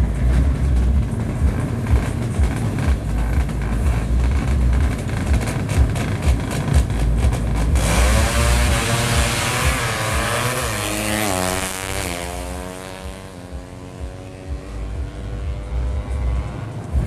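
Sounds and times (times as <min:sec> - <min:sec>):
low uneven rumble: 0:00.0 - 0:17.0
motorcycle engine revving high: 0:00.0 - 0:17.0.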